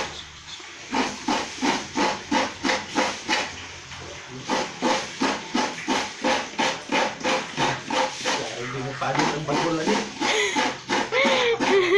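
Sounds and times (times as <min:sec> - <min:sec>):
coconut scraped on grater: 0:00.0 - 0:03.6, 0:04.3 - 0:11.9.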